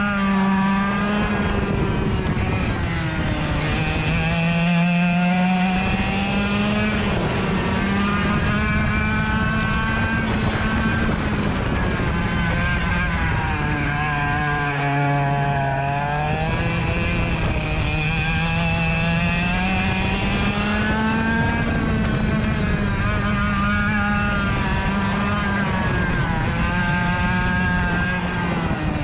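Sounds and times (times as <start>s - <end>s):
kart engine revving: 0.0s - 29.0s.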